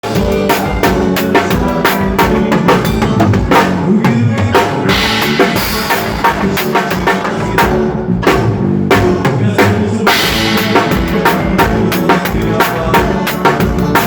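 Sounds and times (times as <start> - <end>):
bass notes: 0.0 - 14.0
drum kit groove: 0.0 - 14.0.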